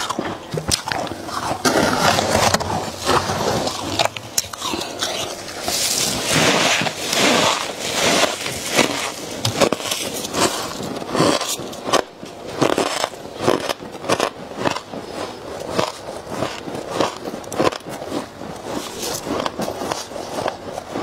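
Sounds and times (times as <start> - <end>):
crunchy chewing: 0.0 - 21.0
frost scraped and squeezed: 0.0 - 21.0.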